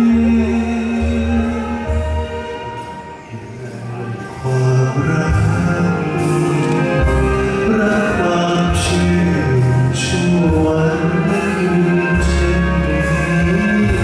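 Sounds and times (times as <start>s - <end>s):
backing music with bass line: 0.0s - 14.0s
man singing into microphone: 0.0s - 14.0s.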